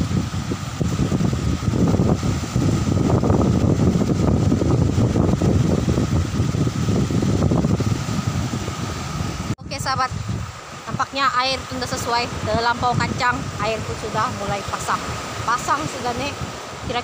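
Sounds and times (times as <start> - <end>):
small waves washing on beach: 0.0 - 17.0
wind buffeting microphone: 0.0 - 17.0.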